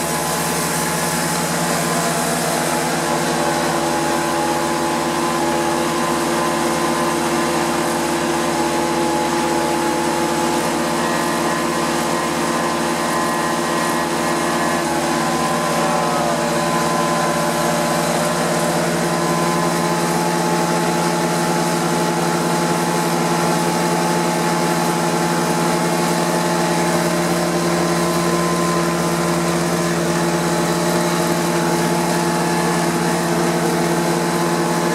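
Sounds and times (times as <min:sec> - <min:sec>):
carpet cleaner machine hum: 0:00.0 - 0:34.9.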